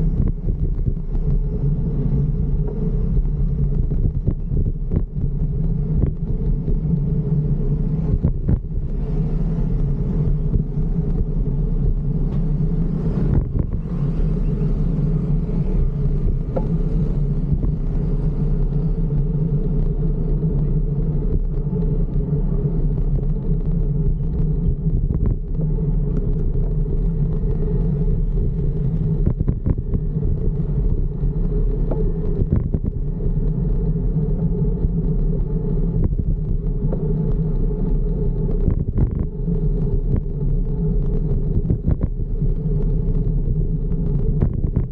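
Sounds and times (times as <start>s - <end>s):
bicycle tyre and wind rumble: 0.0s - 44.9s.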